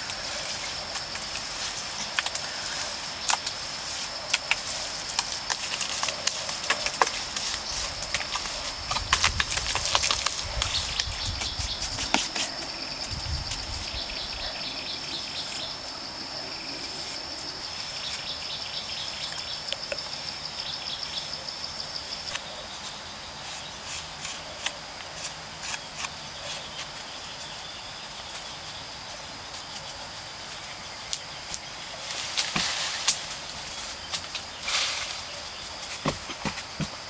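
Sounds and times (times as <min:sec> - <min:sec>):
insects trilling: 0:00.0 - 0:37.0
lower insect trill: 0:00.0 - 0:37.0.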